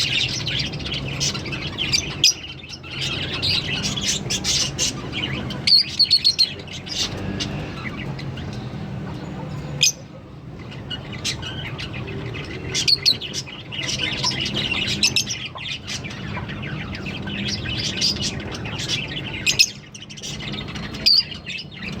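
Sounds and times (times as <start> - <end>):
lovebirds chirping and twittering: 0.0 - 22.0.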